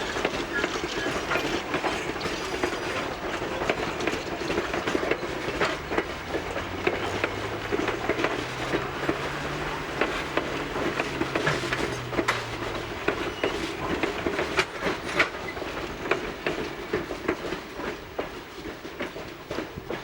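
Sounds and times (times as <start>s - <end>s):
train wheels clicking over rail joints: 0.0s - 20.0s.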